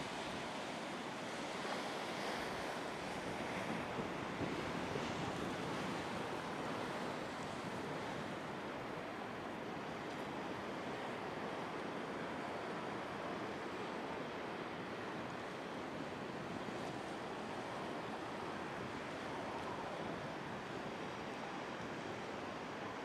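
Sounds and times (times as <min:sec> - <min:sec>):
ocean surf washing: 0:00.0 - 0:23.0.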